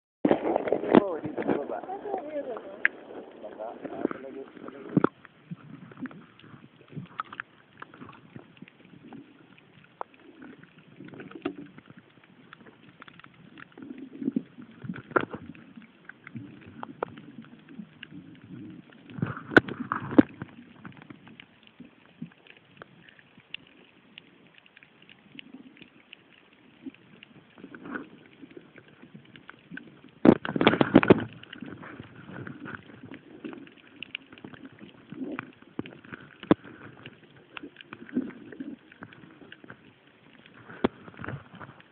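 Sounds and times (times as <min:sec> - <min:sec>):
water surges: 0:00.2 - 0:41.9
muffled underwater noise: 0:00.3 - 0:41.9.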